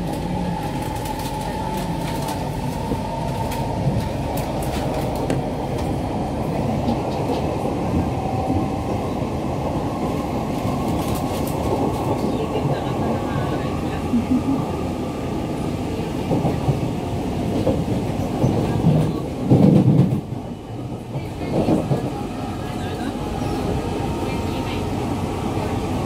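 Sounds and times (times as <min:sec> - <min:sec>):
metro train wheels rumbling: 0:00.0 - 0:26.0.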